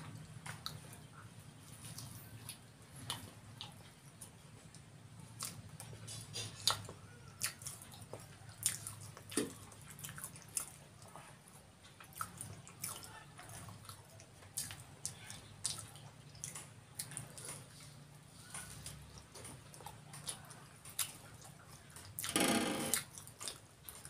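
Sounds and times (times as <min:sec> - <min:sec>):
wet chewing and lip-smacking: 0:00.0 - 0:24.0.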